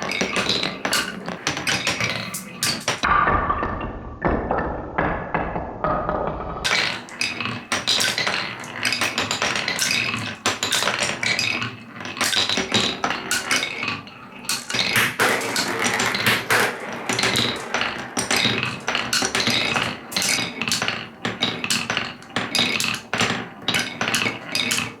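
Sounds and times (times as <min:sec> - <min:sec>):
marbles clattering on wooden run: 0:00.0 - 0:03.1, 0:06.6 - 0:25.0.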